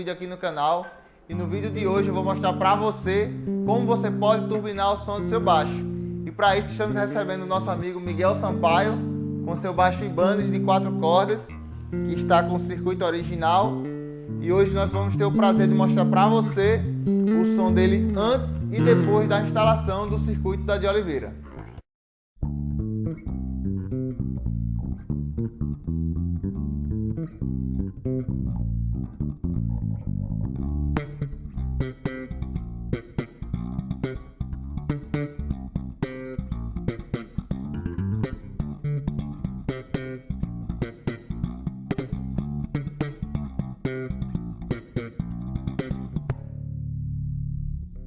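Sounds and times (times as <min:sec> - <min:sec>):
electric bass plucked notes: 0:01.3 - 0:21.8, 0:22.4 - 0:48.0.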